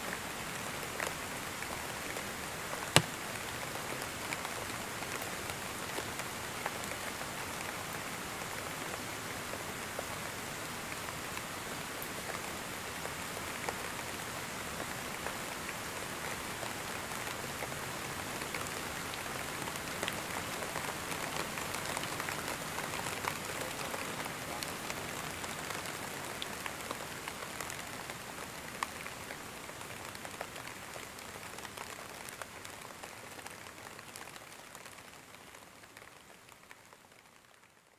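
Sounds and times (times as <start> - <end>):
heavy rain falling: 0.0 - 37.8.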